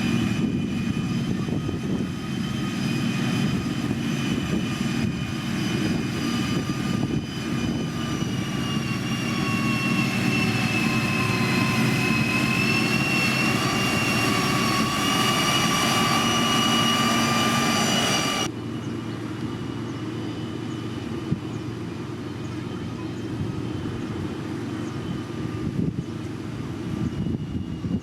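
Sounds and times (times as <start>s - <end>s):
high machine whine: 0.0s - 28.0s.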